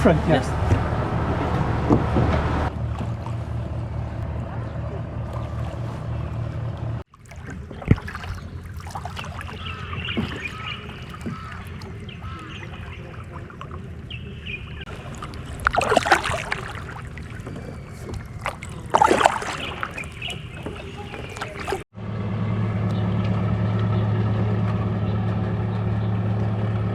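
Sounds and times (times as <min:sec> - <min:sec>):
kayak paddles splashing in water: 0:00.0 - 0:21.9.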